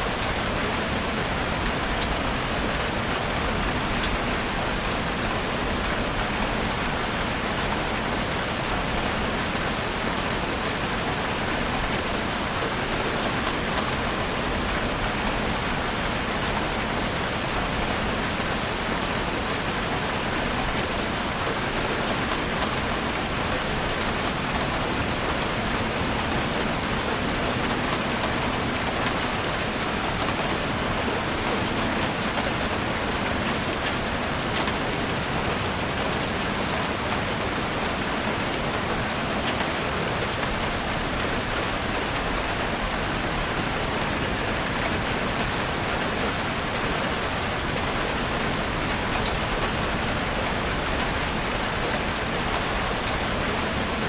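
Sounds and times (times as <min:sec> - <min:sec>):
heavy rain drumming on a roof: 0:00.0 - 0:54.0.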